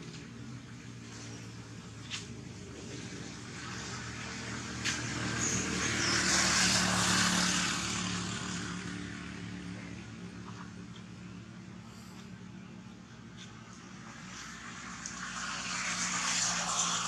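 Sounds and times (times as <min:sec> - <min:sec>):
passing engine drone: 0:00.0 - 0:17.0.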